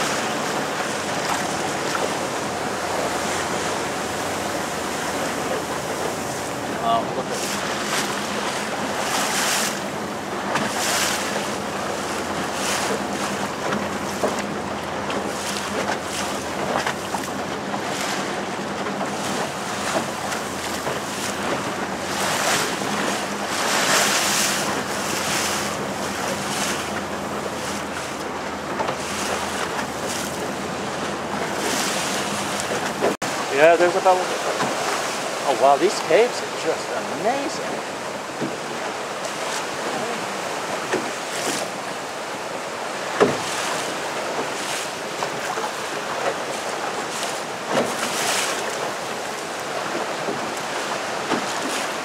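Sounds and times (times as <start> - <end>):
motorboat engine hum: 0.0 - 52.0
water rushing along hull: 0.0 - 52.0
water splashing: 0.0 - 52.0.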